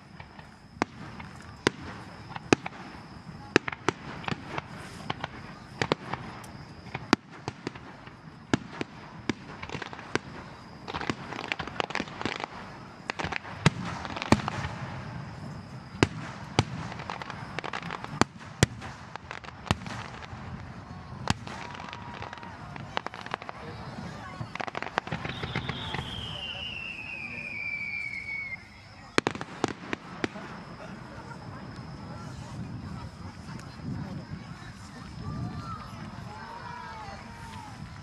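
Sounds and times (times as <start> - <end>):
fireworks bangs and cracks: 0.0 - 38.0
fireworks crackle: 0.0 - 38.0.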